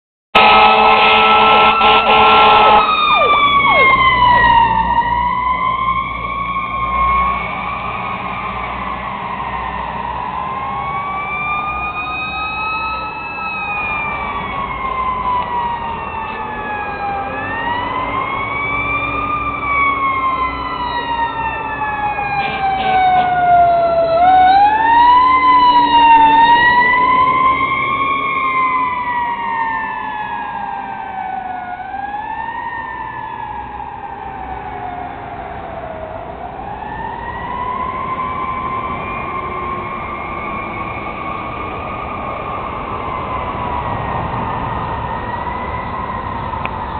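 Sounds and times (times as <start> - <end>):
fire truck sirens wailing: 0.4 - 46.9.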